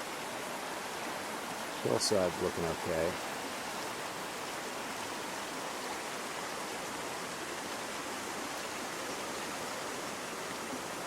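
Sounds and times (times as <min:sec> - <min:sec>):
creek rushing floodwater: 0:00.0 - 0:11.0.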